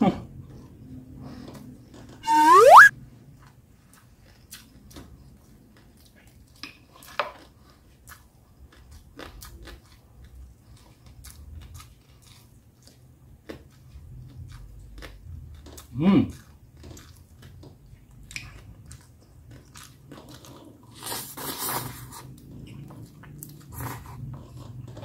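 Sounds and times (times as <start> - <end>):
man chewing crispy food: 3.4 - 25.0.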